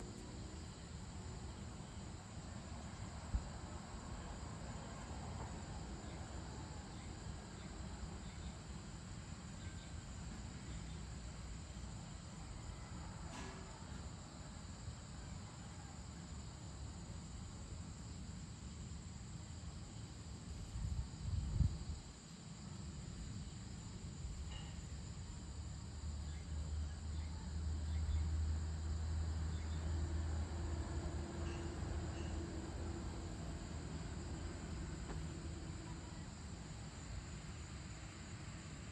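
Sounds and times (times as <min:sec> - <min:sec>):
insects chirring: 0:00.0 - 0:38.9
low rumble of distant traffic: 0:00.0 - 0:38.9.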